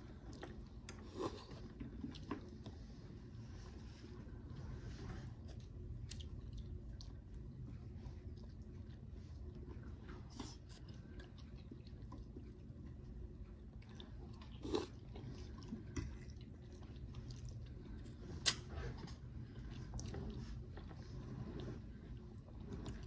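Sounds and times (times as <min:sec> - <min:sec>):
person chewing food: 0:00.1 - 0:03.0, 0:05.4 - 0:23.0.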